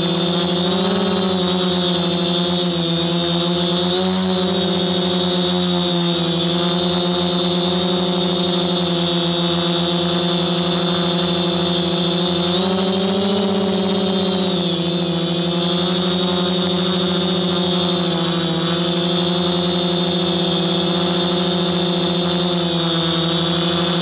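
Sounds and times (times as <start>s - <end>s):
drone propellers humming: 0.0s - 24.0s.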